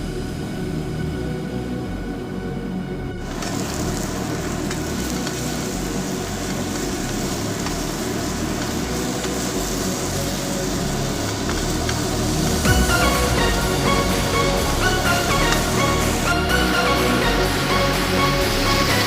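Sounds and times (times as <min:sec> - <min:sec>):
background music: 0:00.0 - 0:19.0
stir-fry sizzling in a pan: 0:03.2 - 0:19.0.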